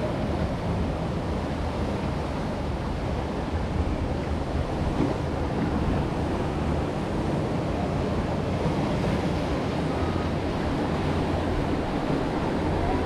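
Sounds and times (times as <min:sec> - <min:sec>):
water rushing around raft: 0:00.0 - 0:13.0.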